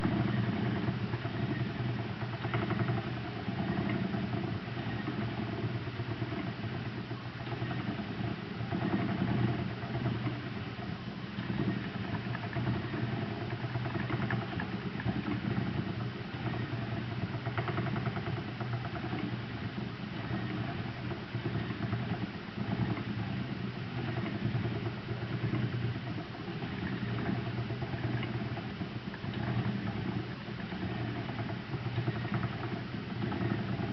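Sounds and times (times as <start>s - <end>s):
spinning wheel clicking: 0.0s - 33.9s
spinning wheel whirring: 0.0s - 33.9s.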